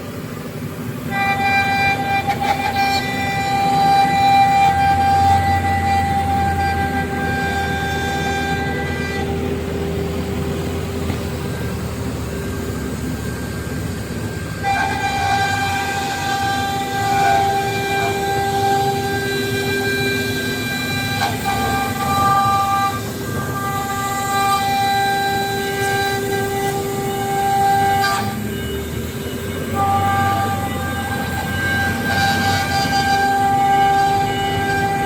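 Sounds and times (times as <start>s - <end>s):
router spindle whining: 0.0s - 35.0s
steady machining tones: 0.0s - 35.0s.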